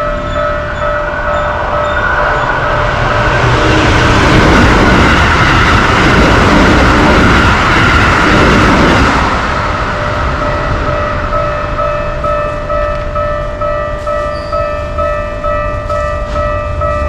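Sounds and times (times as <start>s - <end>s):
electric train passing at high speed: 0.0s - 17.0s
level crossing alarm bell ringing: 0.0s - 17.0s.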